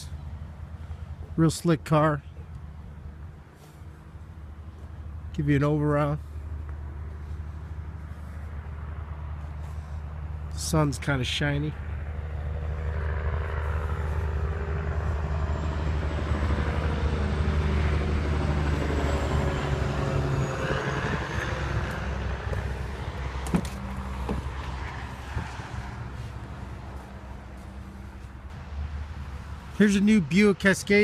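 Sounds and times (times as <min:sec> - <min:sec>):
vehicle engine humming: 0:00.0 - 0:31.0.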